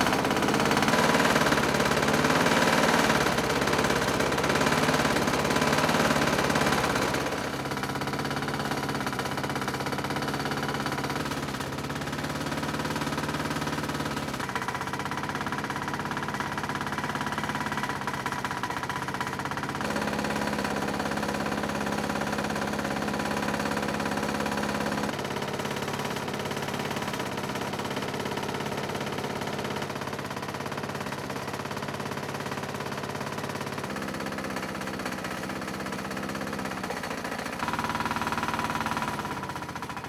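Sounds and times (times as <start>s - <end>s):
lawnmower engine running: 0.0s - 40.0s.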